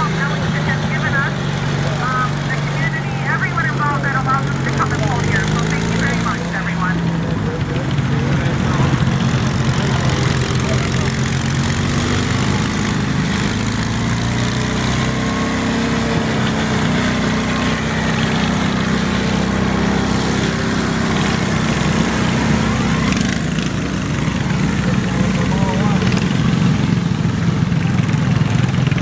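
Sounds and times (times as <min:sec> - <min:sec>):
garden tractor engine running: 0:00.0 - 0:29.0.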